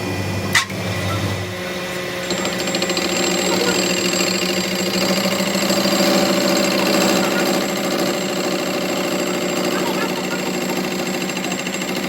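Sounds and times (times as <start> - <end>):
machine steady whine: 0.0 - 12.0
machine buzzing rattle: 2.1 - 12.0.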